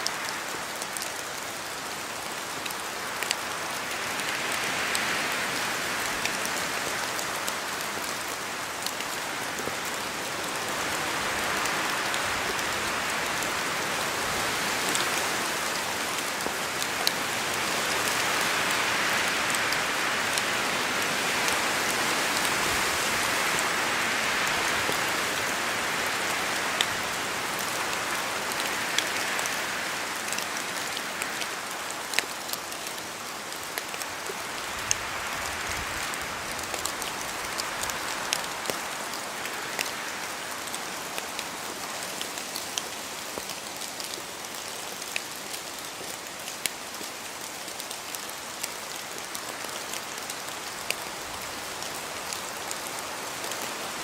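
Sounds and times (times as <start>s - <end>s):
steady rain in forest: 0.0s - 54.0s.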